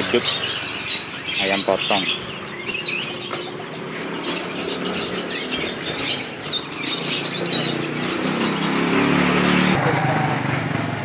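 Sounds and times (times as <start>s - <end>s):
caged birds chirping: 0.0s - 10.4s.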